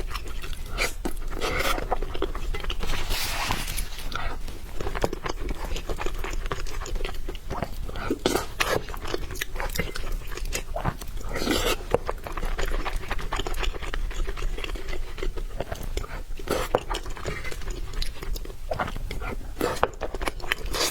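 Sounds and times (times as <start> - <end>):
breathy mouth sounds: 0.0 - 20.9
wet chewing: 0.0 - 20.9.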